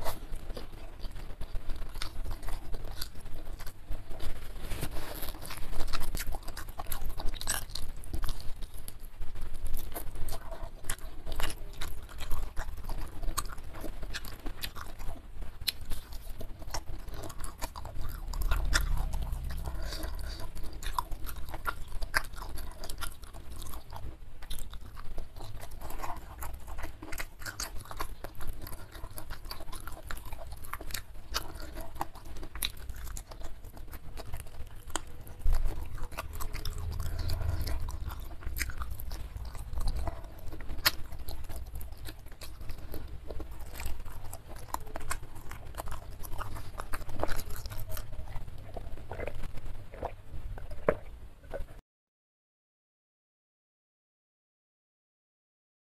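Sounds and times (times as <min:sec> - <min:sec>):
chewing crispy fried chicken: 0:00.0 - 0:51.8.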